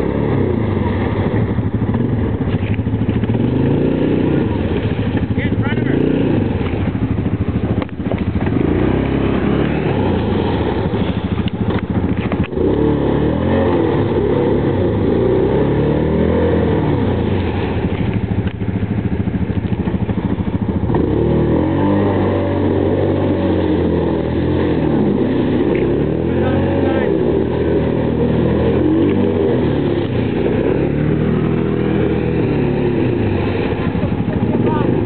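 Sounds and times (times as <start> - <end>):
quad engine revving: 0.0 - 35.0
wheels spinning in muddy water: 0.0 - 35.0.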